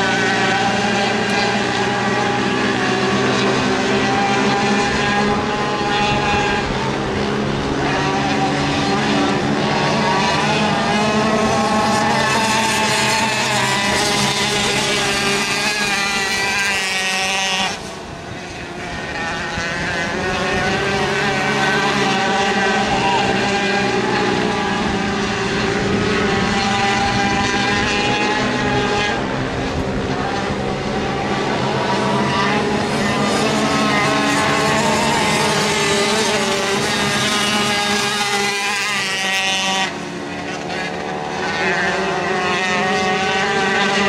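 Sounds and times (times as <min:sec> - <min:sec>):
racing motorcycle engines: 0:00.0 - 0:44.0.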